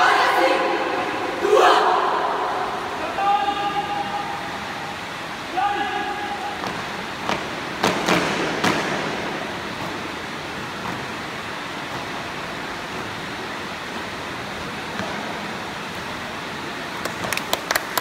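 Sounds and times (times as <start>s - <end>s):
hall and crowd noise: 0.0s - 18.0s.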